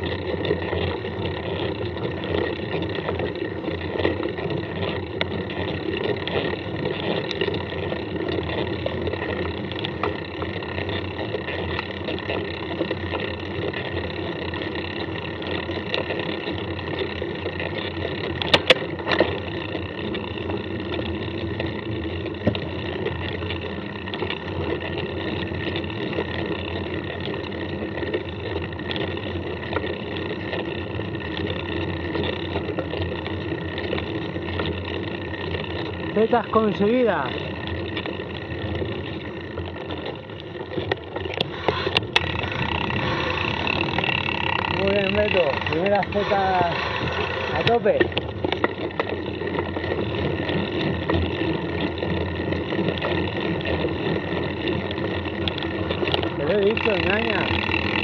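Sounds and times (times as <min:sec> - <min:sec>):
mountain bike riding noise: 0:00.0 - 0:58.0
sharp clatter: 0:00.0 - 0:58.0.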